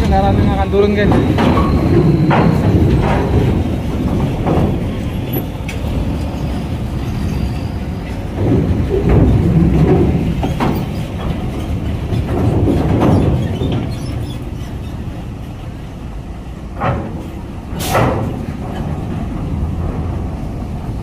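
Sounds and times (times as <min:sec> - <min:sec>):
heavy trucks diesel rumble: 0:00.0 - 0:21.0.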